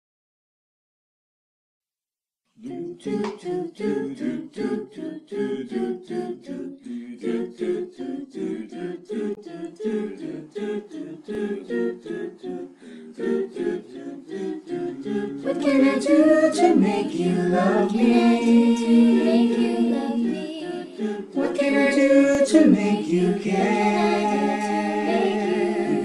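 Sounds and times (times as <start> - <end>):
a cappella group singing chords: 2.6 - 26.0.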